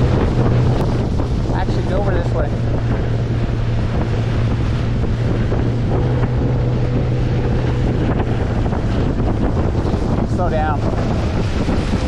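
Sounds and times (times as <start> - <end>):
outboard motor humming: 0.0 - 12.0
wind buffeting microphone: 0.0 - 12.0.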